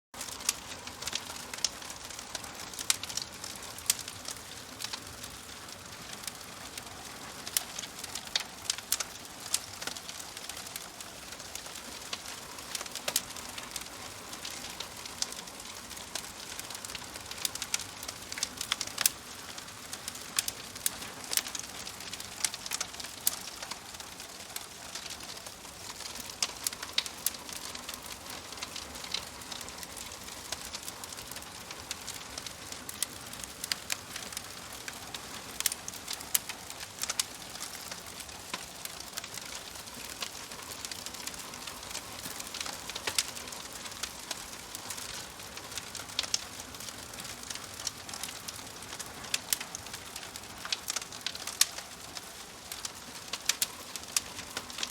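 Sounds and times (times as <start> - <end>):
fire pops and snaps: 0.2 - 54.9
wood fire crackling: 0.2 - 54.9.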